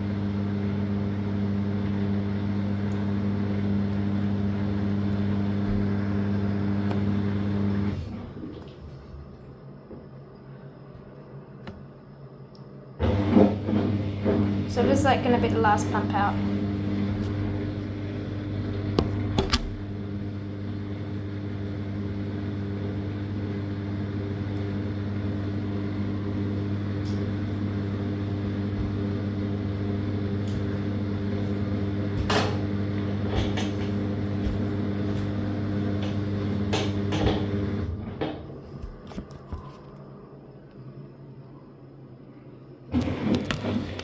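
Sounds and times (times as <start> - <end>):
washing machine drain pump humming: 0.0 - 39.7, 42.9 - 44.0.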